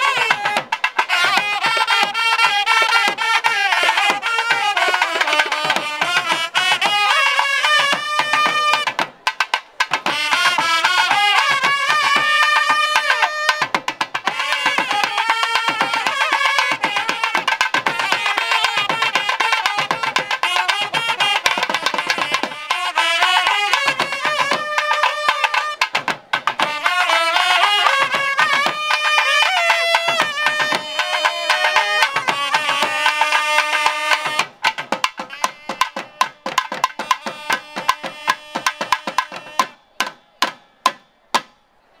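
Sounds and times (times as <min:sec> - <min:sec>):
double-reed horn melody: 0:00.0 - 0:08.9, 0:10.1 - 0:13.6, 0:14.2 - 0:25.9, 0:26.6 - 0:39.8
drum strokes: 0:00.0 - 0:41.6.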